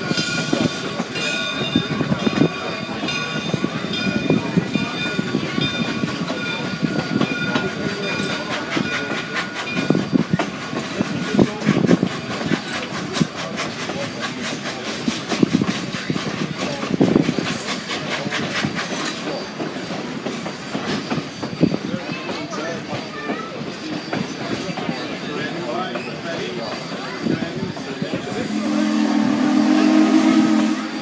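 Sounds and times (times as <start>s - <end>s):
train rumbling on track: 0.0s - 31.0s.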